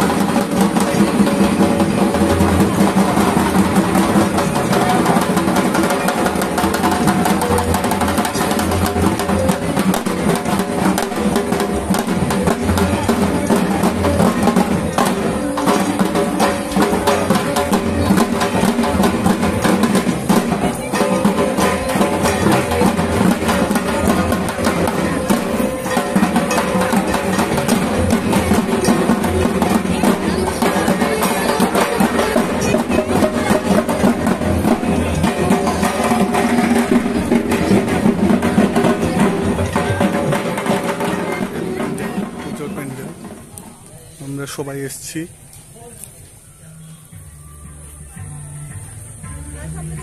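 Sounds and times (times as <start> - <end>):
barrel drums beaten with sticks: 0.0 - 43.5.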